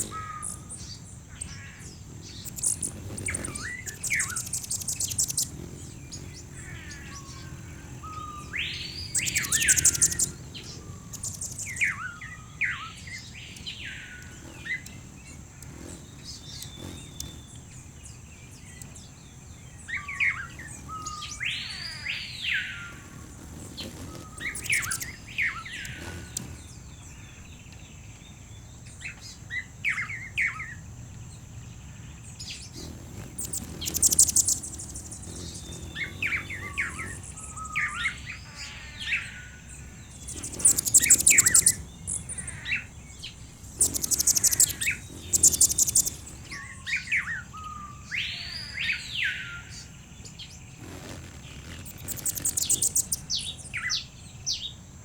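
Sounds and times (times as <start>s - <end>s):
buzzy bird trills: 0.0s - 27.6s, 31.8s - 54.6s
birds chirping and calling: 0.0s - 27.8s, 31.8s - 54.7s.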